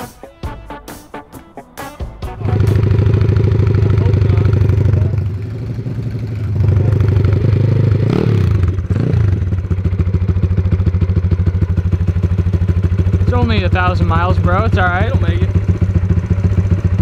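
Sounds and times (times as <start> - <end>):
mini bike engine revving and idling: 2.4 - 17.0.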